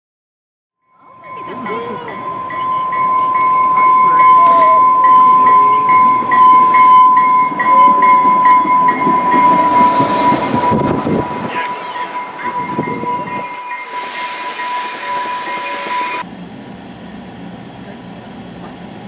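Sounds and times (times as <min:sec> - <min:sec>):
high-pitched train squeal: 0:00.9 - 0:16.3
rumble of train cars: 0:01.0 - 0:19.0.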